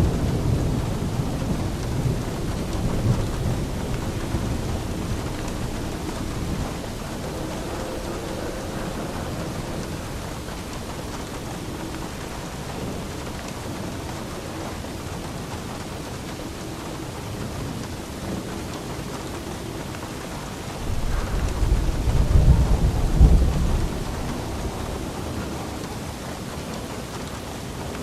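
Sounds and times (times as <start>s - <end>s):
rain falling: 0.0s - 28.0s
thunder rumbling: 0.0s - 28.0s.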